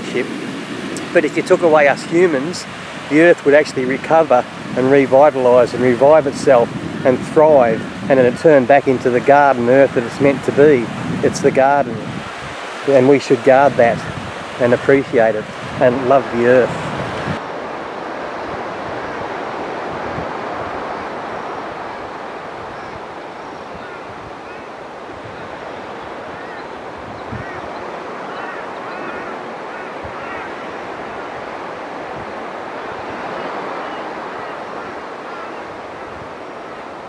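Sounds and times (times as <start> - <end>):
surf rushing: 0.0 - 37.0
wind: 0.0 - 37.0.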